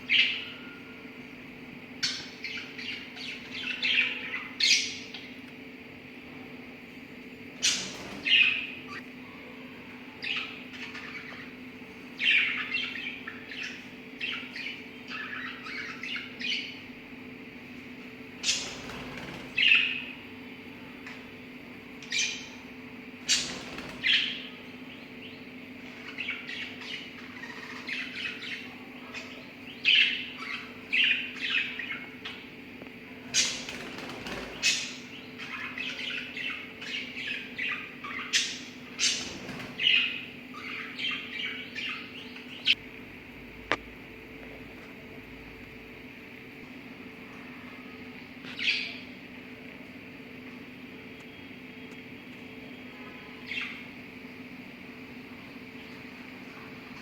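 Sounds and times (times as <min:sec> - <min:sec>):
lovebirds chirping and squawking: 0:00.0 - 0:05.5, 0:07.1 - 0:42.8, 0:47.3 - 0:49.3, 0:51.2 - 0:57.0
faint steady hum: 0:00.0 - 0:57.0.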